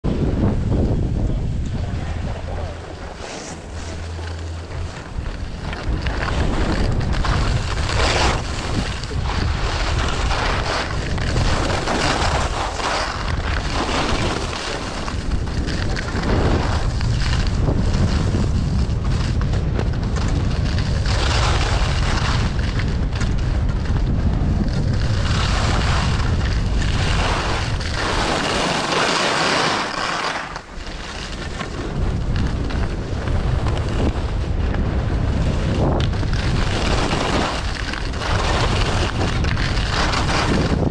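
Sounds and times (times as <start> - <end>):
wind buffeting microphone: 0.0 - 40.9
skis scraping on hard snow: 0.1 - 40.9.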